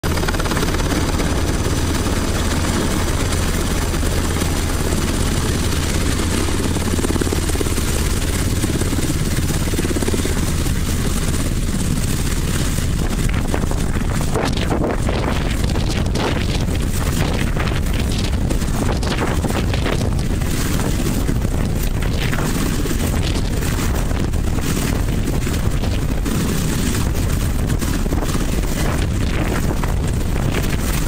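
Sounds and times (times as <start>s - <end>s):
helicopter rotor and engine: 0.0s - 31.0s
wind gusts on microphone: 0.0s - 31.0s.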